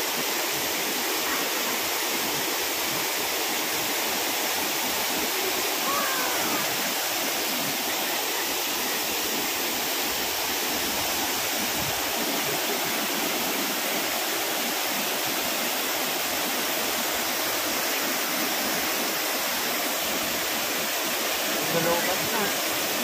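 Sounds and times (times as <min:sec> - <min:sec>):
waterfall cascading: 0:00.0 - 0:23.0.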